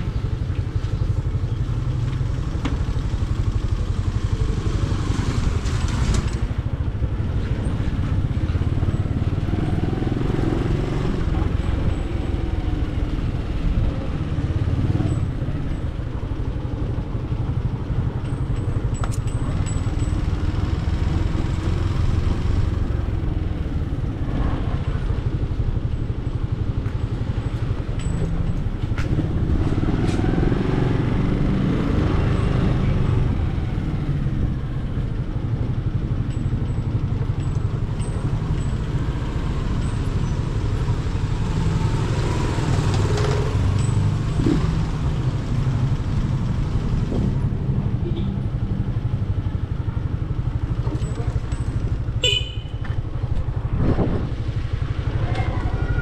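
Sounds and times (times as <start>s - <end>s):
road and wind noise: 0.0s - 56.0s
vehicle engine rumble: 0.0s - 56.0s.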